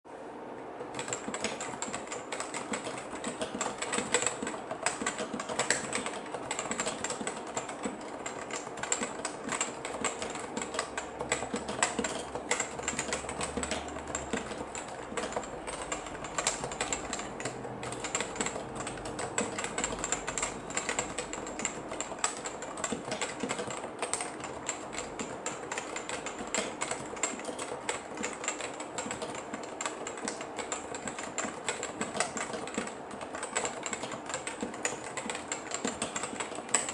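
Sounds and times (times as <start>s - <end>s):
keyboard typing: 0.8s - 36.9s.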